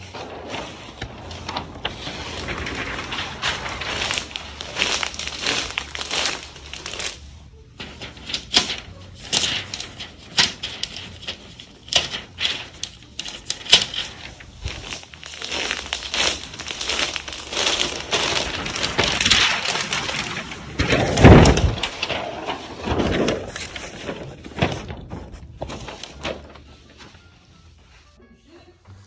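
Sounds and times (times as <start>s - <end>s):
wrapping paper crinkling: 0.0s - 28.0s.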